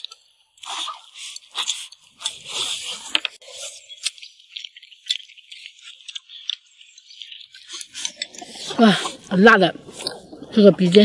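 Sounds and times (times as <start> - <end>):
people slurping and chewing: 0.0 - 11.0.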